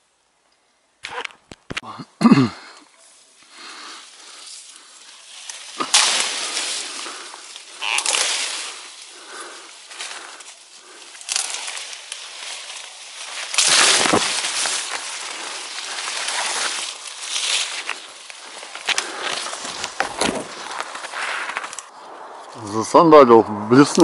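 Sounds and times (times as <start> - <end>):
leaves and branches rustling: 2.5 - 24.0.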